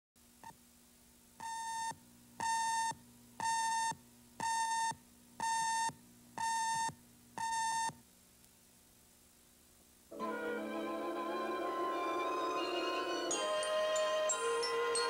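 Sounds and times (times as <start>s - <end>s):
faint hum: 0.2s - 15.0s.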